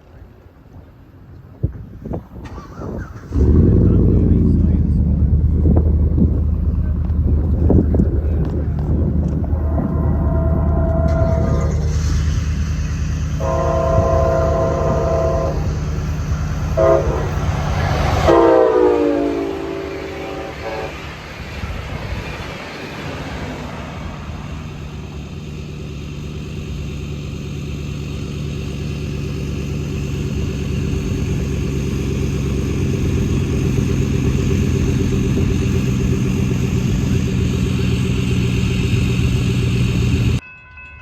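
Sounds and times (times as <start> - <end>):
train engine drone and rumble: 0.0 - 41.0.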